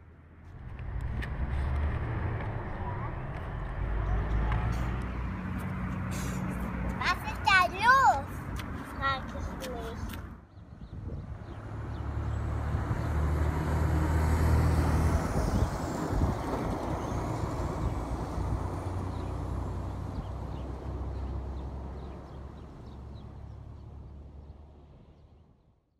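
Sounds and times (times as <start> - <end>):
diesel truck driving past: 0.0 - 10.5, 11.2 - 25.6.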